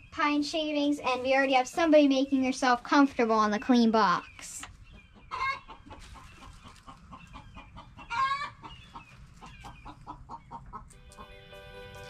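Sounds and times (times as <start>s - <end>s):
hen clucking: 1.0s - 12.0s.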